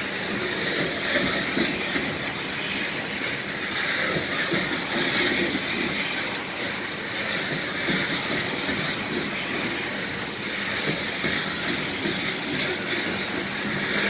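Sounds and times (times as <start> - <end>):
steel train wheels on rails: 0.0 - 14.0.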